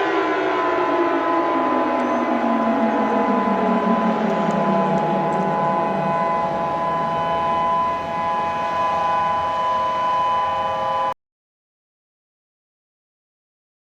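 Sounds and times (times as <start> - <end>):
emergency alert tones: 0.0 - 11.2
low hum: 0.0 - 11.2.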